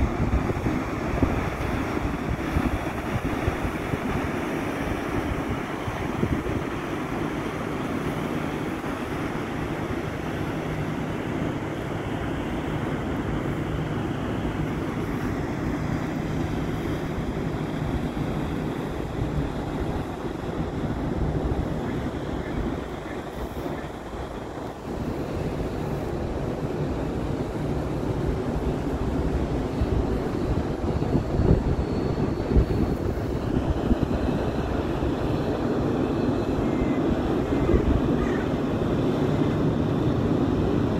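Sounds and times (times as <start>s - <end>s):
wind noise on microphone: 0.0s - 11.6s, 14.6s - 40.9s
river water wash: 0.0s - 40.9s
ship diesel engine drone: 0.0s - 40.9s.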